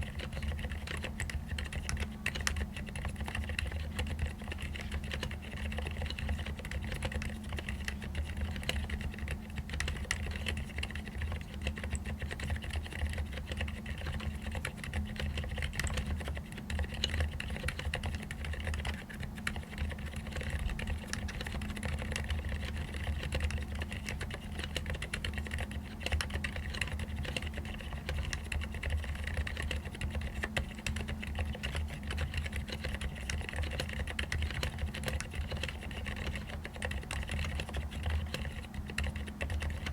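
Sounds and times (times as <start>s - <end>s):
muted mechanical keyboard typing: 0.0s - 39.9s.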